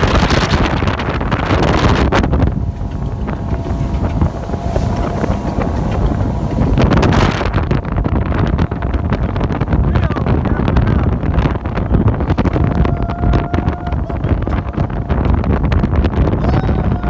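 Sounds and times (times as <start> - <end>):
boat engine drone: 0.0 - 17.0
hull slapping through waves: 0.0 - 17.0
wind buffeting microphone: 0.0 - 17.0.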